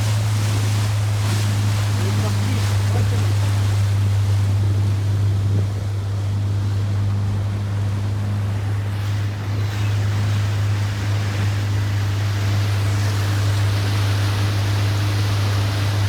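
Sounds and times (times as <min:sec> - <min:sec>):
motorboat engine humming: 0:00.0 - 0:16.0
rushing water: 0:00.0 - 0:16.0
wind: 0:00.0 - 0:16.0.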